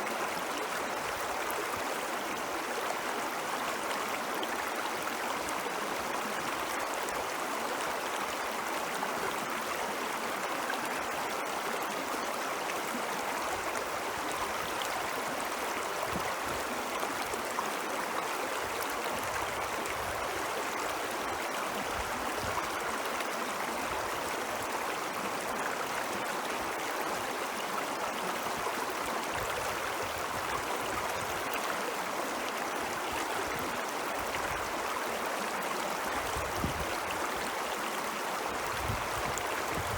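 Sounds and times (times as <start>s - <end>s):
stream rushing and gurgling: 0.0s - 39.9s.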